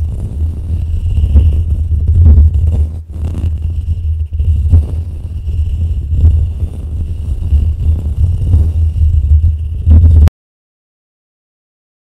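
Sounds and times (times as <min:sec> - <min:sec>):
fingertips scratching microphone windscreen: 0:00.0 - 0:10.3.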